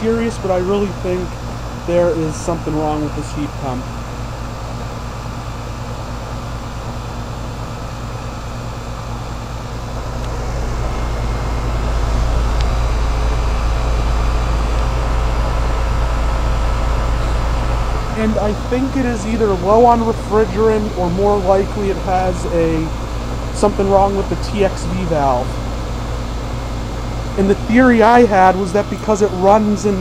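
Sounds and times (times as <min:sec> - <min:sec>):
compressor hum: 0:00.0 - 0:30.0
fan air rush: 0:00.0 - 0:30.0.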